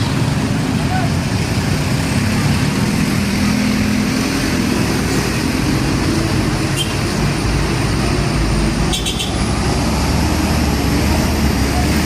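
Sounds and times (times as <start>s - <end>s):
heavy road traffic: 0.0s - 12.0s.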